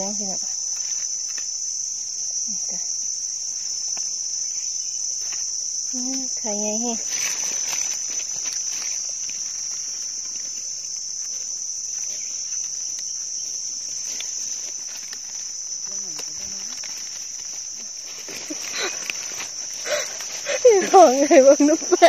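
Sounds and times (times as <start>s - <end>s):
insects droning: 0.0s - 22.0s
rustling of dry leaves and soil: 0.0s - 22.0s.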